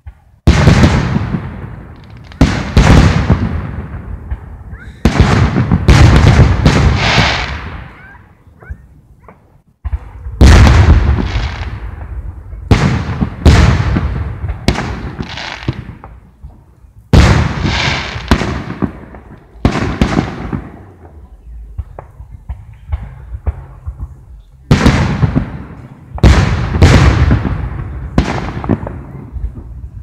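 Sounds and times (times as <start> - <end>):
firework booms with rolling echo: 0.0 - 8.4, 9.2 - 30.0.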